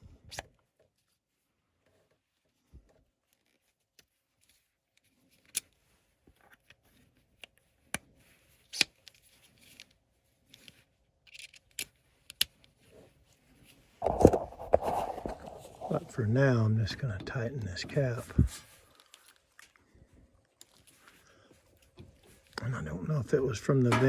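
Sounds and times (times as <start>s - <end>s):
rustling handling noises: 0.0s - 24.0s.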